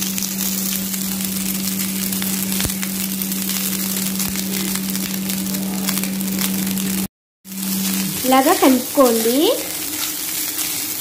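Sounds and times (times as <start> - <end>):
low hum: 0.0 - 8.9
food sizzling in hot oil: 0.0 - 11.0.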